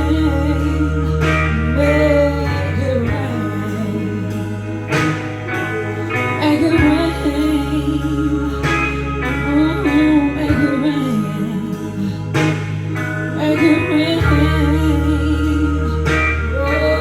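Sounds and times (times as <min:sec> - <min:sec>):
blues guitar: 0:00.0 - 0:17.0
low bass notes: 0:00.0 - 0:17.0
person singing: 0:00.0 - 0:17.0.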